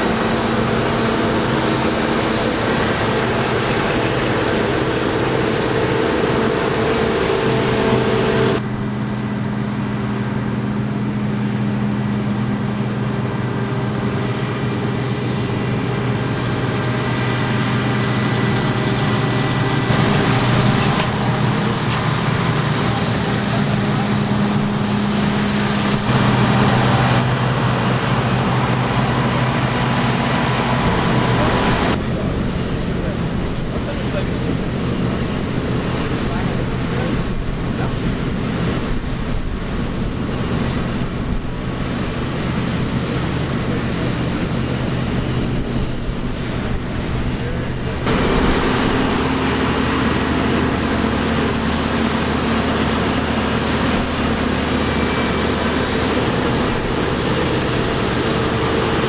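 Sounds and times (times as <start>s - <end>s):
diesel farm machinery running: 0.0s - 59.0s.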